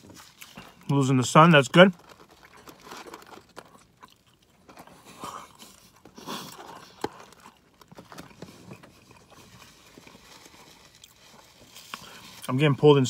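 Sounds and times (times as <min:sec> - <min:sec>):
chewing french fries: 0:00.0 - 0:12.7.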